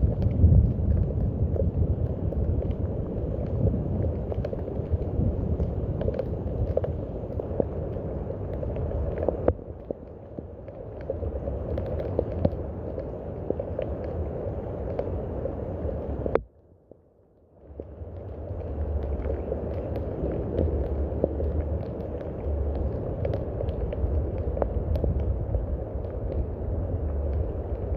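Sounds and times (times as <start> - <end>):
raindrops ticking and spattering: 0.0 - 27.9
steady rain: 0.0 - 27.9.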